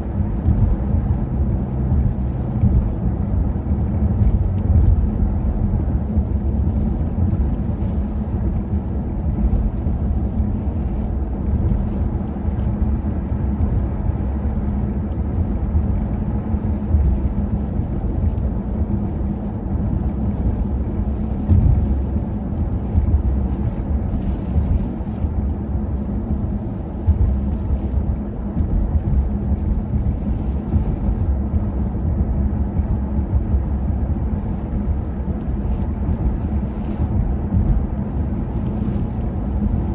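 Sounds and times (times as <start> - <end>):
steady low hum: 0.0 - 39.9
wind buffeting microphone: 0.0 - 39.9.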